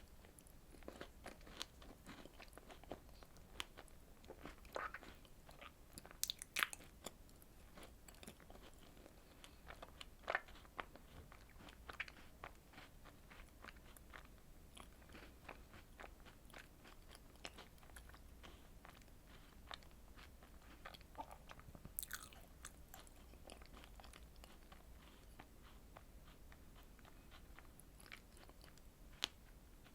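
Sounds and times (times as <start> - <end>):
biting and wet chewing: 0.1 - 29.9.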